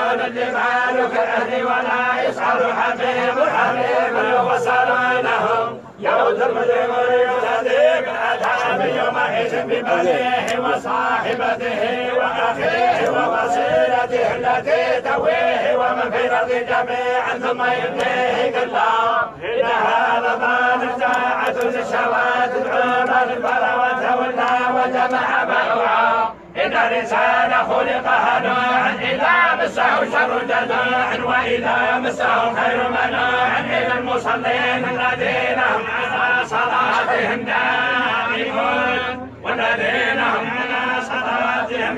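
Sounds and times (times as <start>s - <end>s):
men chanting in unison: 0.0s - 41.9s.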